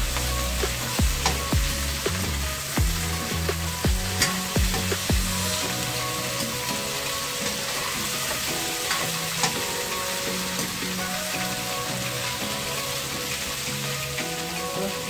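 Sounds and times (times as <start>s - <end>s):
vegetables sizzling in a frying pan: 0.1s - 15.0s.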